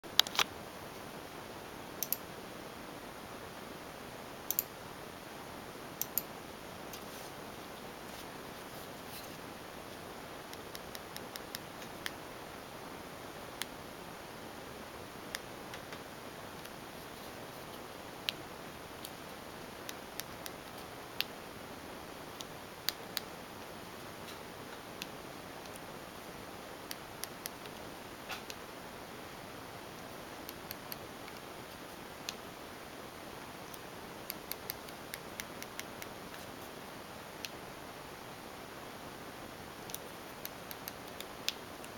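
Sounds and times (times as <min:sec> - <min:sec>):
low room hiss: 0:00.0 - 0:41.9.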